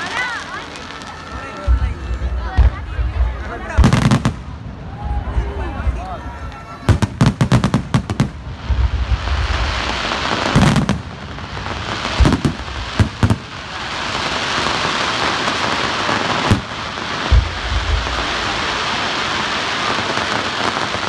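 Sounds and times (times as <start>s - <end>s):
fireworks bangs and booms: 0.0s - 21.0s
fireworks crackling hiss: 0.0s - 21.0s.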